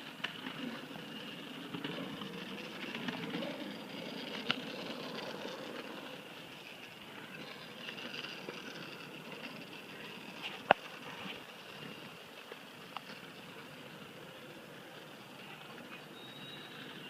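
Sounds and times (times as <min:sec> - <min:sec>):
small vehicle rolling on pavement: 0:00.0 - 0:17.0.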